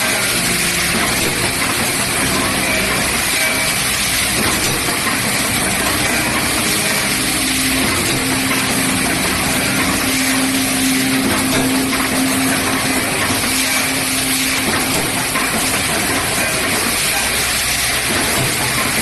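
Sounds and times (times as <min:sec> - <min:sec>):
low steady hum: 0:00.0 - 0:16.8
machine mechanical clatter and hiss: 0:00.0 - 0:19.0.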